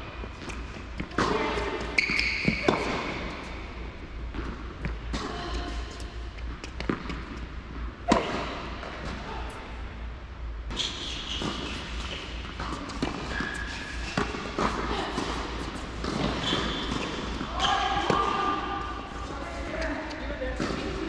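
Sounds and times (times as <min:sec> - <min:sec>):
balls bouncing on hard court: 0:00.2 - 0:09.6, 0:10.7 - 0:21.0
tennis balls hit by rackets: 0:00.3 - 0:09.6, 0:10.7 - 0:19.0.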